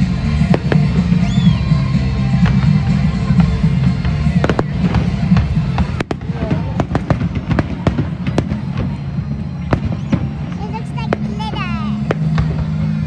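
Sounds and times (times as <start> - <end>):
background music: 0.0 - 13.0
firework bangs and crackles: 0.0 - 13.0.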